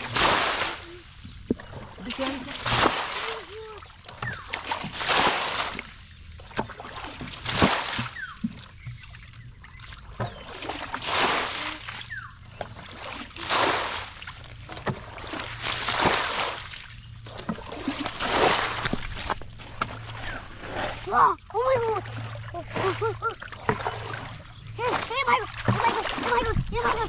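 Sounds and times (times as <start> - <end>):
bucket water splashing out: 0.0 - 1.0, 2.0 - 6.0, 6.6 - 8.4, 10.2 - 12.1, 12.7 - 21.2, 21.8 - 27.0
water scooping and sloshing: 0.0 - 27.0.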